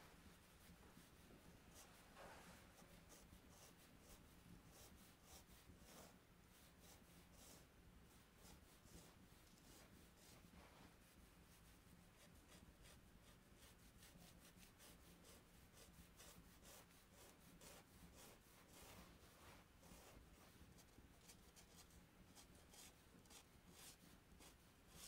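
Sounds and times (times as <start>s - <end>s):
low room hum: 0.0s - 25.0s
chalk scratching on paper: 0.2s - 25.0s.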